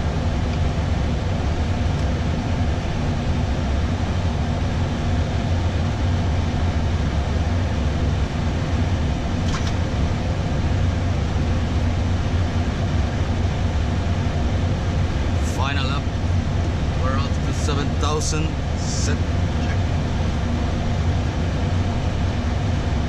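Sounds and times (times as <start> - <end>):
cockpit airflow and air-conditioning hum: 0.0 - 23.0.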